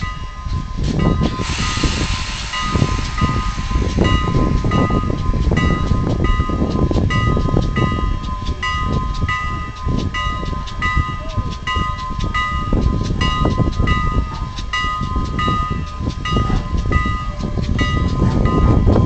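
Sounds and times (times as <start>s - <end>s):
train bell ringing: 0.0s - 19.0s
train rumble: 0.0s - 19.0s.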